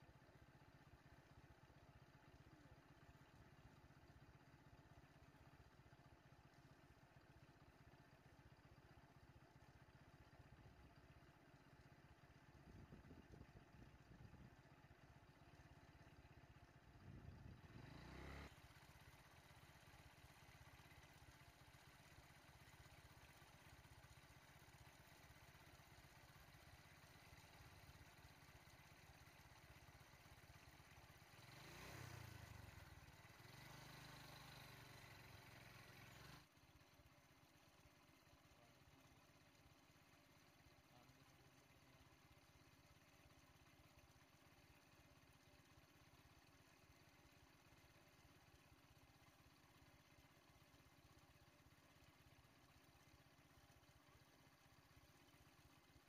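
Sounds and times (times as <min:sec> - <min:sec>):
auto-rickshaw engine: 0:00.0 - 0:56.0.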